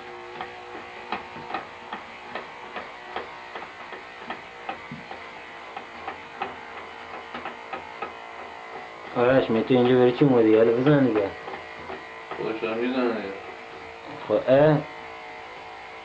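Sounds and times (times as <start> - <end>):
electric hair trimmer buzzing: 0.0 - 16.0.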